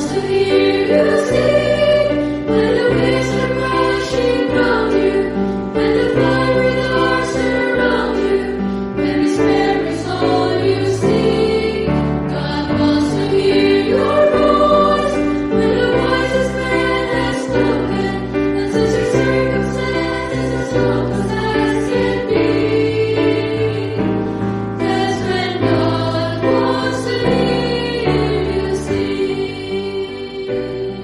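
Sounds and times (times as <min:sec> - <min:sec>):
choir singing sustained notes: 0:00.0 - 0:31.0.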